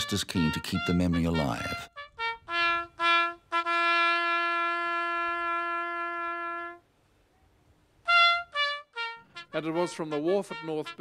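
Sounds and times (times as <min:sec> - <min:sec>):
bugle call: 0:00.0 - 0:06.8, 0:08.0 - 0:11.0.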